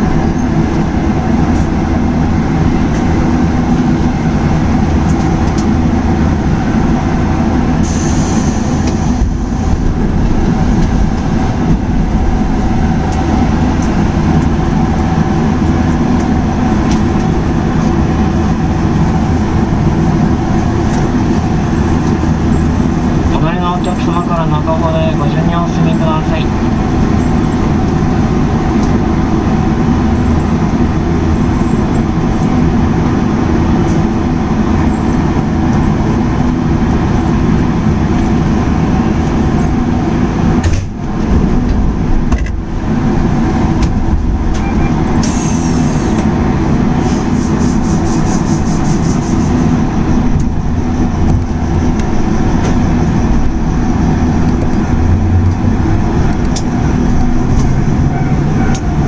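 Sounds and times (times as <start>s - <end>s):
electric train hum and rumble: 0.0s - 59.0s.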